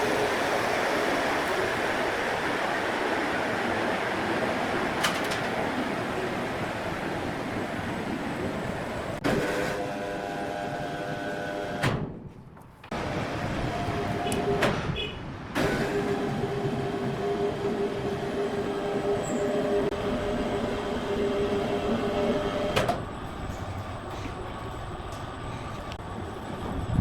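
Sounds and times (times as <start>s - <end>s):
sawmill machinery droning: 0.0s - 11.9s, 12.9s - 14.9s, 15.6s - 27.0s.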